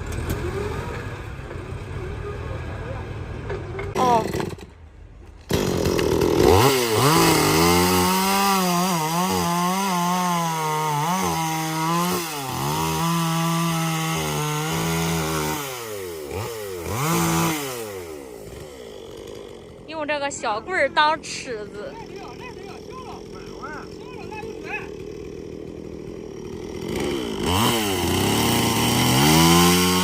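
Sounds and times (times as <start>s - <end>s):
chainsaw cutting wood: 3.9s - 30.0s.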